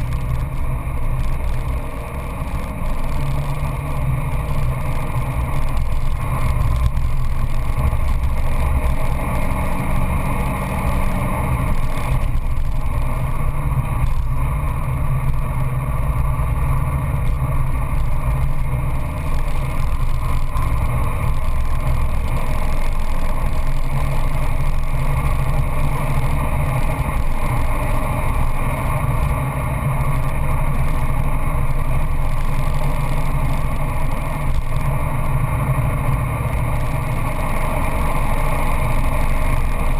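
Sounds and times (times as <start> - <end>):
car engine running hard: 0.0 - 39.9
tyre and wind noise: 0.0 - 39.9.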